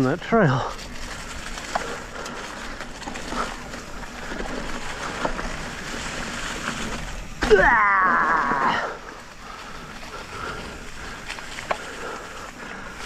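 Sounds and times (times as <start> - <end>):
bike clicks and rattles: 0.0 - 13.0
bike tyres rushing on dirt: 0.0 - 13.0.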